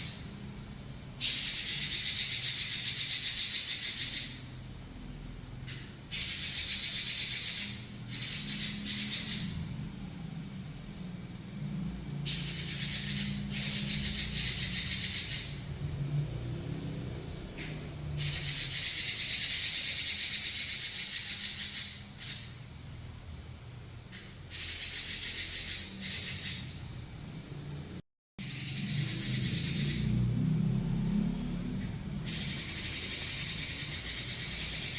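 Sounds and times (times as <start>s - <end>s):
bird singing rolling trills: 0.0s - 16.0s, 16.9s - 22.8s, 24.1s - 27.0s, 28.4s - 31.0s, 32.2s - 34.9s.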